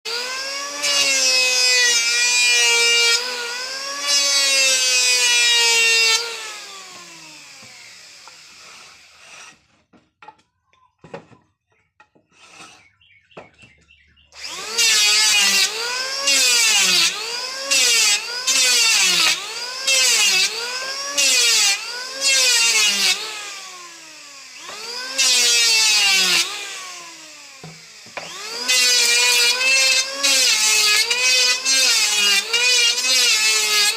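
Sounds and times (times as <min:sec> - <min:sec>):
electric planer motor whining: 0:00.1 - 0:09.6, 0:14.4 - 0:33.9.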